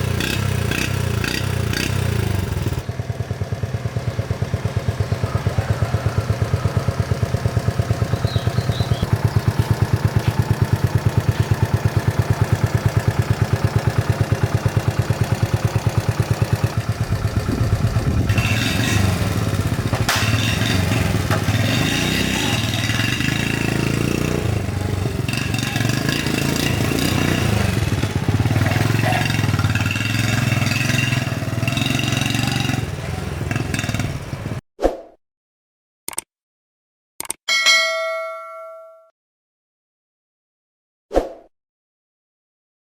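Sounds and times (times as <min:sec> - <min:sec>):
motorcycle engine idling and revving: 0:00.0 - 0:34.6.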